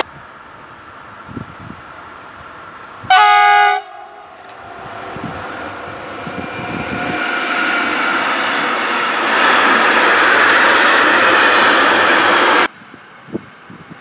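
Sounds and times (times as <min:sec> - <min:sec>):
freight train passing at speed: 0:00.0 - 0:14.0.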